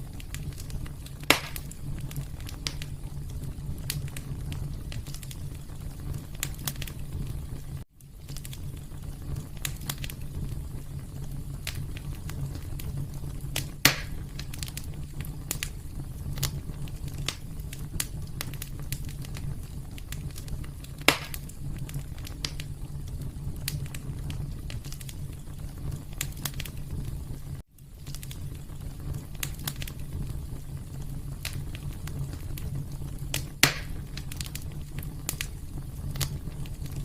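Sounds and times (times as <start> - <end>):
fire pops: 0.0 - 37.0
wood fire crackling: 0.0 - 37.0.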